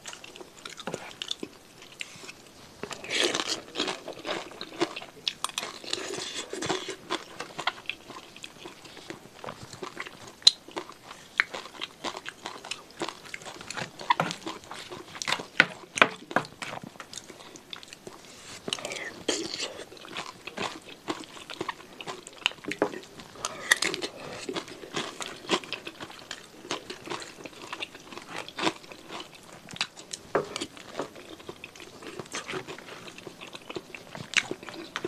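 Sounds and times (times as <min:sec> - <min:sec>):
wet chewing: 0:00.0 - 0:35.0.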